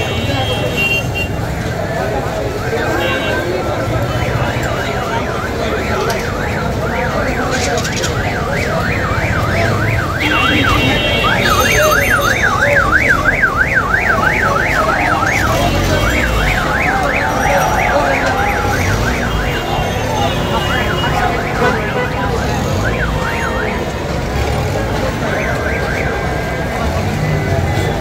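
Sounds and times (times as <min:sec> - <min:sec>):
street crowd hubbub: 0:00.0 - 0:28.0
electronic siren sweeping: 0:04.0 - 0:27.6.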